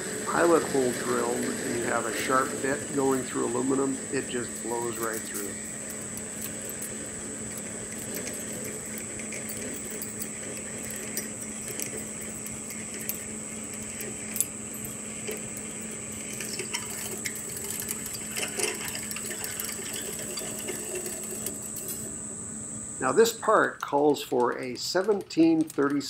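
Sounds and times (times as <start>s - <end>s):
metal lathe humming: 0.0s - 23.5s
light ticks of metal chips: 3.0s - 22.0s, 23.8s - 26.0s.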